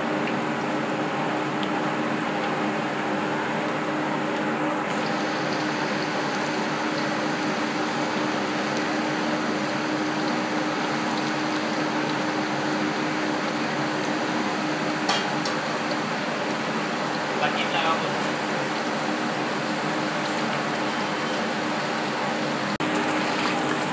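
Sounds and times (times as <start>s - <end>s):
battered chicken deep-frying in oil: 0.0s - 23.9s.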